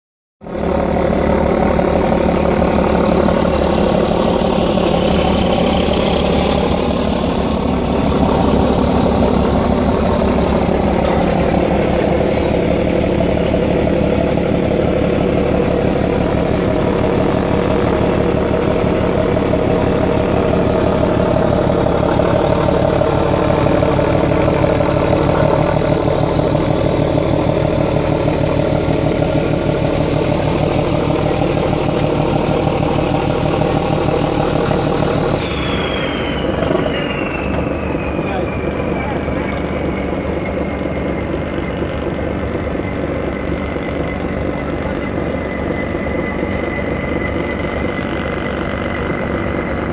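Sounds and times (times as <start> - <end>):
ship engines humming: 0.4 - 49.9.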